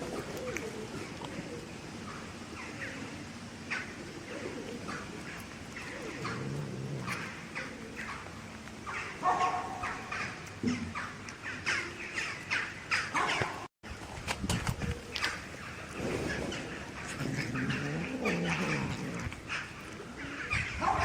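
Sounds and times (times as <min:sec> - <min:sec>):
birds calling: 0:00.0 - 0:13.7, 0:14.5 - 0:21.0.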